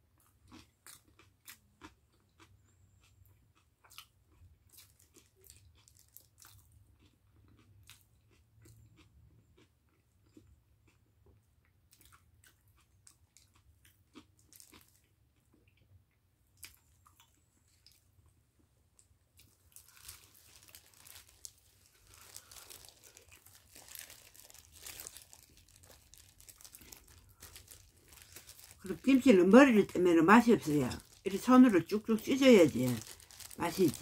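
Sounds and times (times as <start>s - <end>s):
chewing sweet potato: 0.0s - 34.0s.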